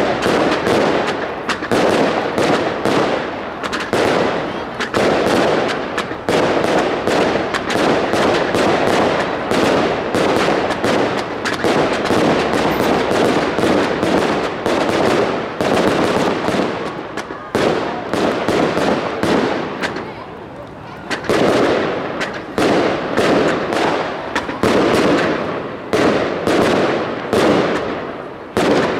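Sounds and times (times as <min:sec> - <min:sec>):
fireworks shells bursting: 0:00.0 - 0:28.0
rapid crackle of fireworks: 0:00.0 - 0:28.9.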